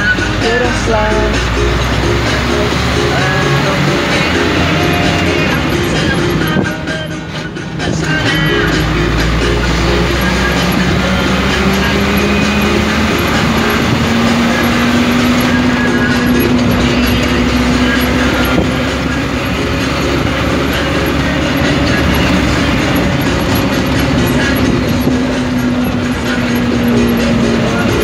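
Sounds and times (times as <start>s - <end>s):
hum rising in pitch: 0.0s - 28.0s
vehicle road noise: 0.0s - 28.0s.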